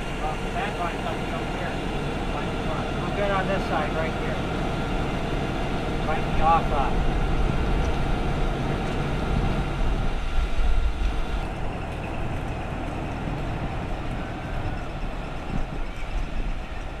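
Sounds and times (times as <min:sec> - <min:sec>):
heavy diesel engine rumbling: 0:00.0 - 0:17.0.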